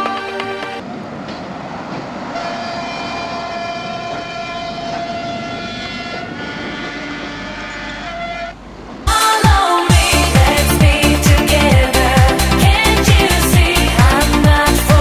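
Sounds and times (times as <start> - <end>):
diesel railcar rumbling past: 0.0 - 15.0.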